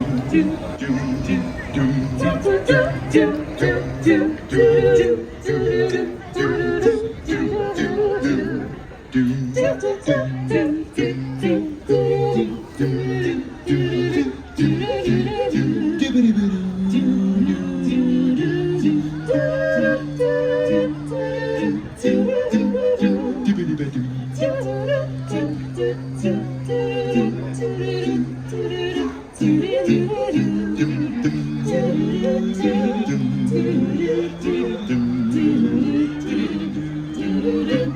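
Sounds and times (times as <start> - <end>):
vocal group singing in harmony: 0.0 - 37.9.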